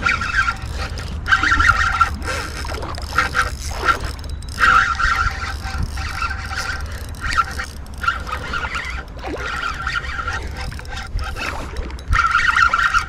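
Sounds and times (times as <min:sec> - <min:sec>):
fishing reel drag buzzing: 0:00.0 - 0:13.0.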